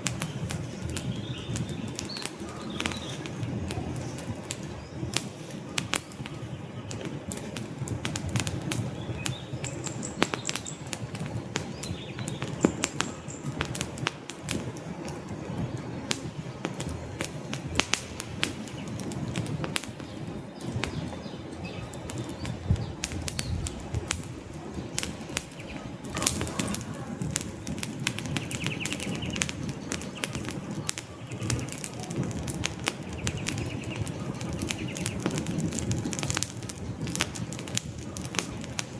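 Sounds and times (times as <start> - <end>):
fire pops and snaps: 0.0 - 38.9
flames rustling: 0.0 - 38.9.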